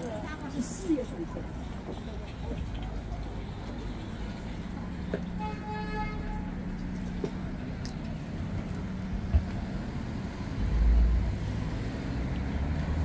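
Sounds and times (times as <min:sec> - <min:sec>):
hum of street traffic: 0:00.0 - 0:13.0.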